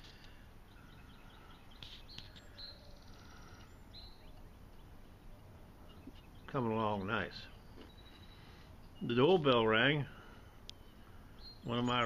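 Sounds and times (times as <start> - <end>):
low outdoor hum: 0.0 - 12.0
bird chirps and calls: 0.2 - 12.0.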